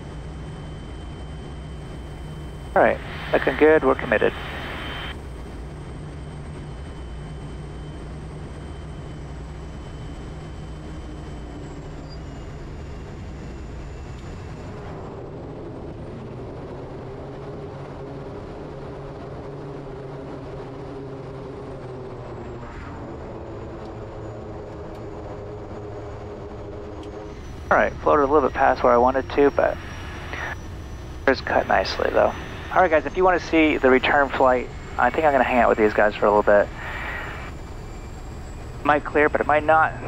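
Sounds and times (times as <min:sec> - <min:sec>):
high turbine whine: 0:00.0 - 0:40.0
turboprop engine and propeller: 0:00.0 - 0:40.0.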